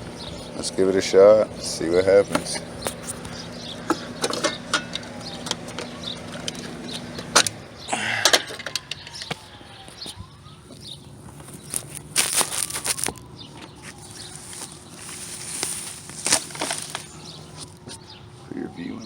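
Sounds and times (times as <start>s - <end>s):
air conditioner unit humming: 0.0s - 19.0s.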